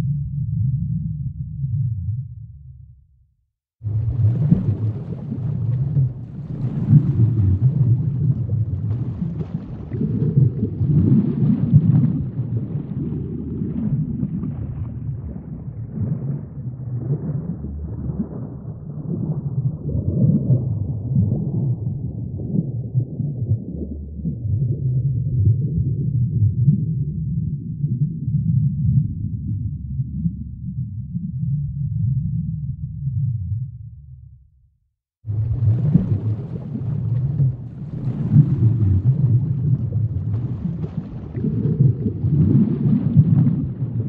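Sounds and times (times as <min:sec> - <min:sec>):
deep churning low rumble: 0:00.0 - 0:03.1, 0:03.8 - 0:34.6, 0:35.3 - 0:44.0.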